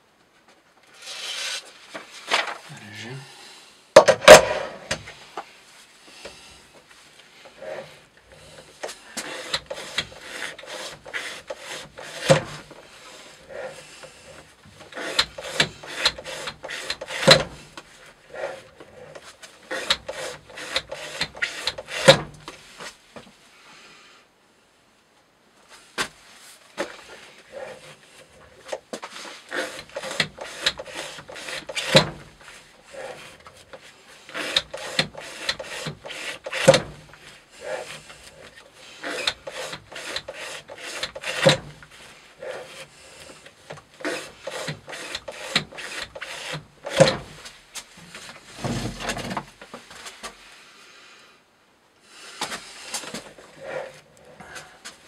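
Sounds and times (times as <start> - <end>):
rope rubbing through holder: 0.8 - 2.8, 4.2 - 23.0, 25.7 - 50.4, 52.2 - 55.0.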